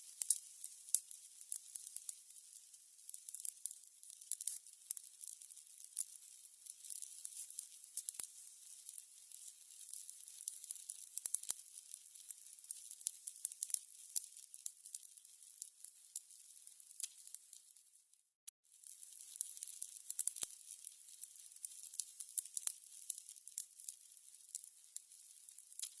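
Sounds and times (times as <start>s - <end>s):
candles crackling and popping: 0.0s - 26.0s.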